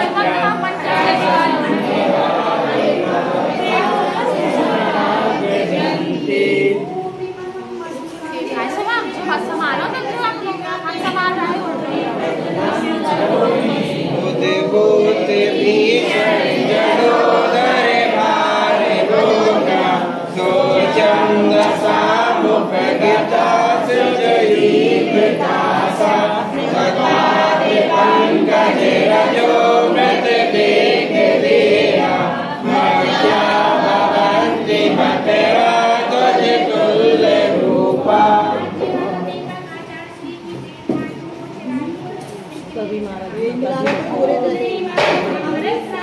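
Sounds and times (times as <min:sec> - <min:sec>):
group singing a chant: 0:00.0 - 0:42.7, 0:43.4 - 0:46.0.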